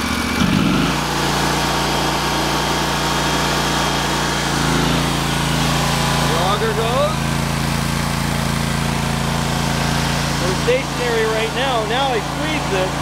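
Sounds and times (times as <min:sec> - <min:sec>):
small gasoline engine revving: 0:00.0 - 0:13.0.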